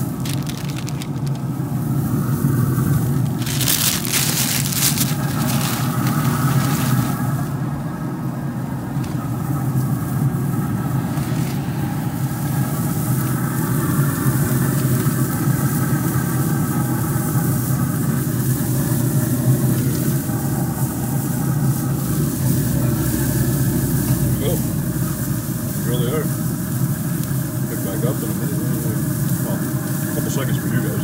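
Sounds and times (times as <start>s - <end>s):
burger patties sizzling: 0.0s - 7.6s, 8.8s - 31.0s
grill fan humming: 0.0s - 31.0s.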